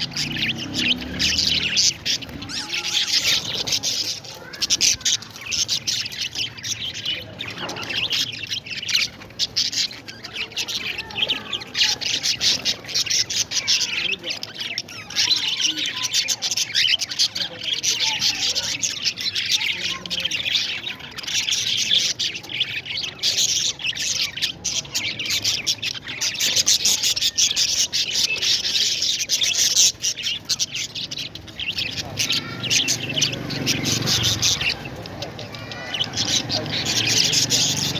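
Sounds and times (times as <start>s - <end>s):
parrots chattering: 0.0s - 37.9s.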